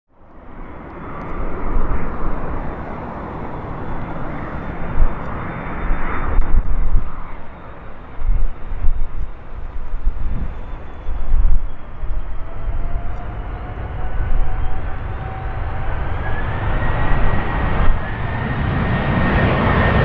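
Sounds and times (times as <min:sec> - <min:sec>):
jet engine noise: 0:00.1 - 0:20.0
high whine: 0:00.2 - 0:20.0
deep rumble: 0:00.3 - 0:20.0.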